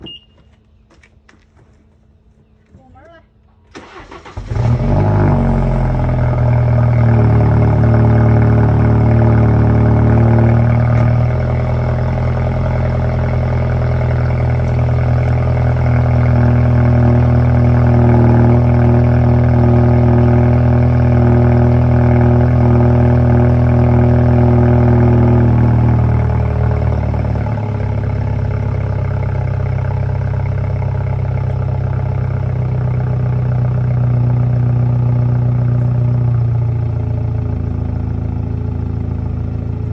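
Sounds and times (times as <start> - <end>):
car engine fast idle drone: 3.8 - 39.9.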